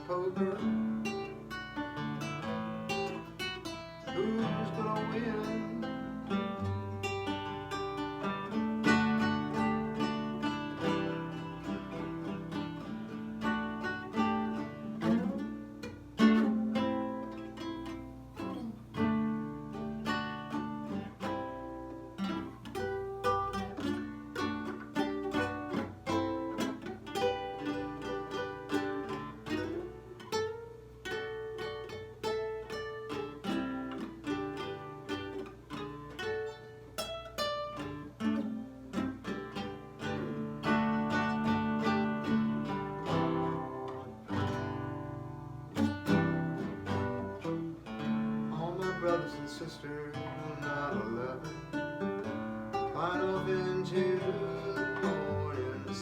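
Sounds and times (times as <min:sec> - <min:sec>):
nylon-string guitar playing: 0:00.0 - 0:56.0.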